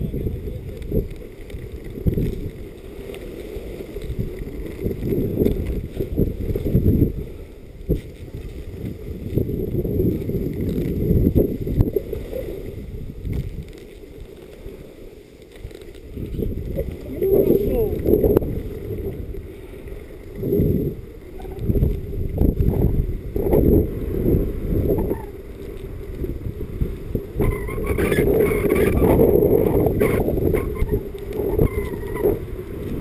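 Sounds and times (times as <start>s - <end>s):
skis sliding on snow: 0.0s - 33.0s
wind buffeting microphone: 0.0s - 33.0s.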